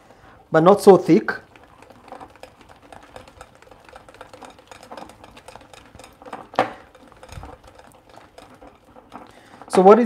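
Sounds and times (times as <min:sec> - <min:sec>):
whisk scraping glass bowl: 0:01.2 - 0:09.9.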